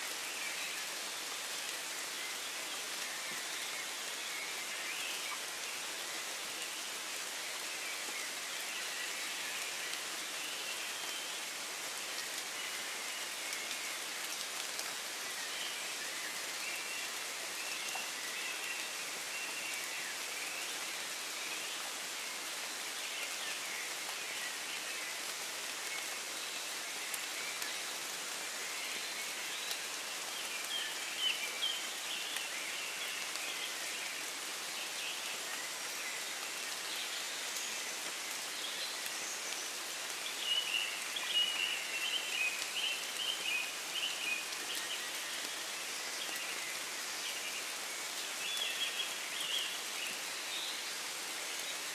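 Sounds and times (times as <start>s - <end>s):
rain falling in woodland: 0.0s - 51.9s.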